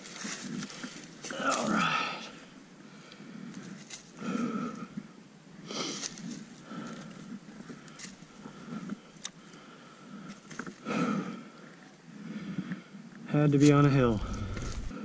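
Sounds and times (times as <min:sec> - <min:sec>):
man breathing heavily: 0:00.4 - 0:13.1, 0:14.0 - 0:15.0.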